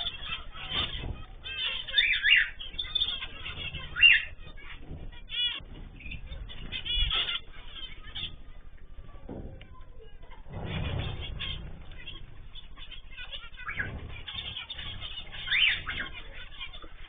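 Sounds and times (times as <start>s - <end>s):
bird squawks: 0.0s - 17.0s
cage birds chirping: 0.0s - 17.0s.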